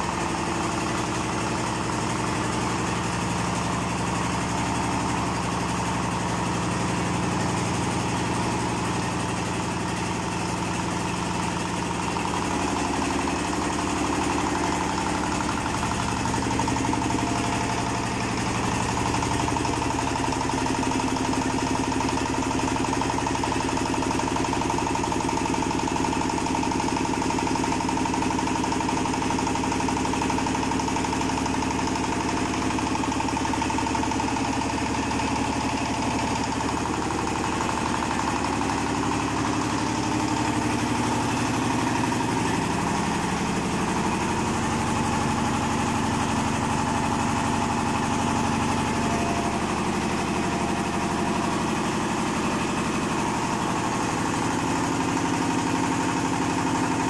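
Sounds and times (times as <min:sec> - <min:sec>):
oil expeller machine droning: 0:00.0 - 0:57.0.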